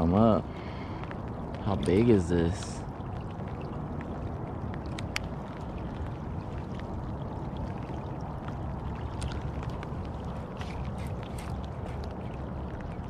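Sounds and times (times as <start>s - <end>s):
light rain on a pond: 0.0s - 13.0s.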